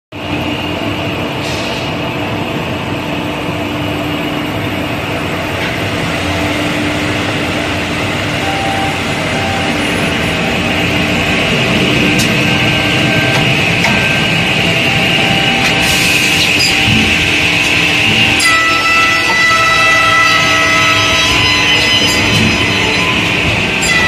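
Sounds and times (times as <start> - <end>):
machine running with high whine: 0.2 - 24.0.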